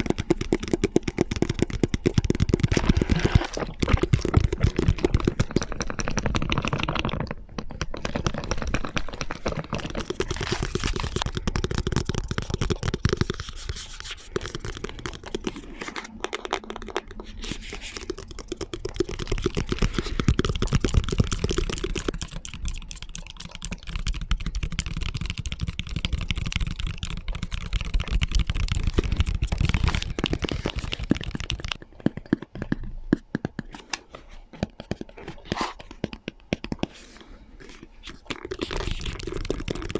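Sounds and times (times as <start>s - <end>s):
fingernails tapping and scratching: 0.0s - 39.9s.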